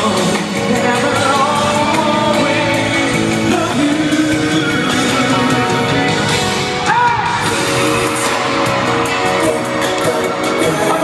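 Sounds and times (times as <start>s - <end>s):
man singing: 0.0s - 8.3s, 9.2s - 11.0s
live pop song over loudspeakers: 0.0s - 11.0s.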